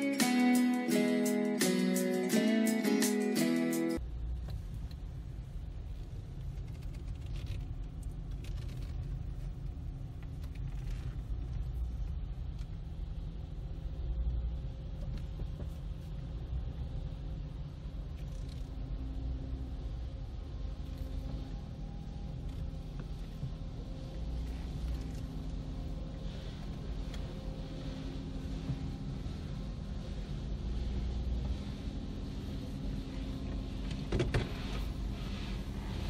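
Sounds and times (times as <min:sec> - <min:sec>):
car engine and tyres rumble: 0:04.0 - 0:36.0.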